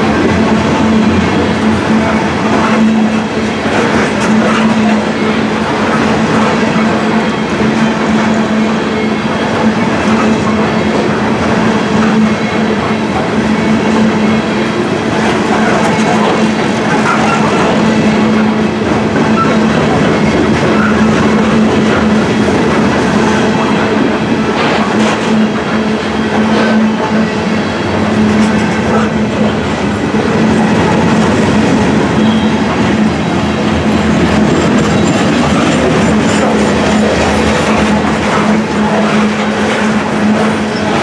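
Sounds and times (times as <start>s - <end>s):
clickety-clack over rail joints: 0.0s - 41.0s
train wheels rumbling on rails: 0.0s - 41.0s.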